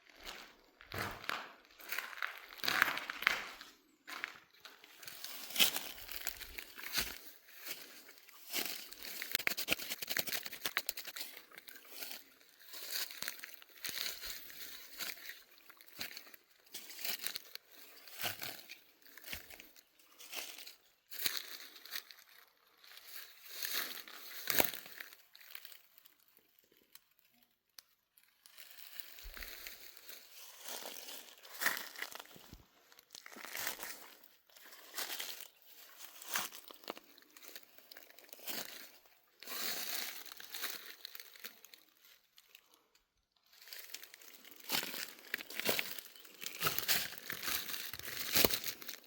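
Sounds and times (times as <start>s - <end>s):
rustling and crinkling: 0.0s - 25.8s, 28.3s - 49.0s.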